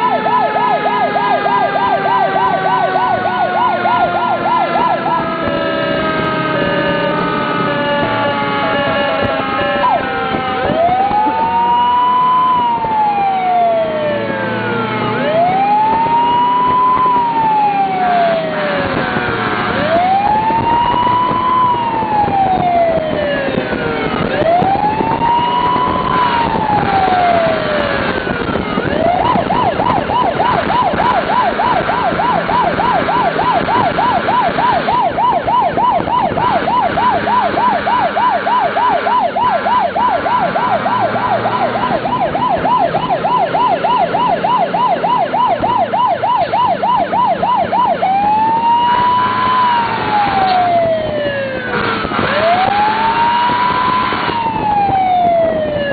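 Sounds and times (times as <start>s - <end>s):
emergency vehicle siren: 0.0s - 55.9s.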